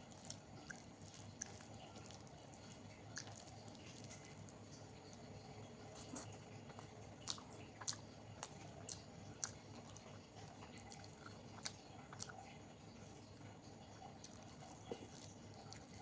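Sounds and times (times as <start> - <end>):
wet chewing and mouth smacks: 0.0 - 13.2, 13.8 - 16.0.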